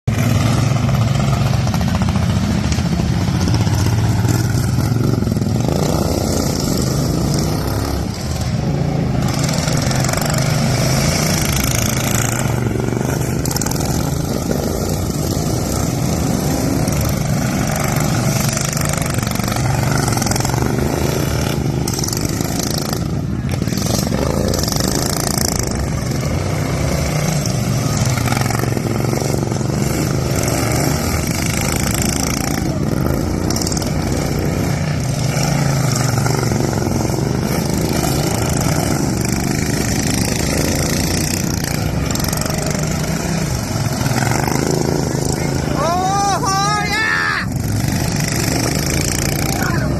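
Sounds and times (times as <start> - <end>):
racing lawn tractor engines: 0.0 - 49.9.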